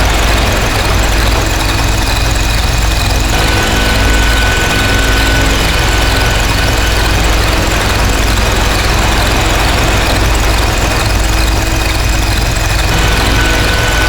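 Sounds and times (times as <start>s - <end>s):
distorted noise drone: 0.0s - 14.0s.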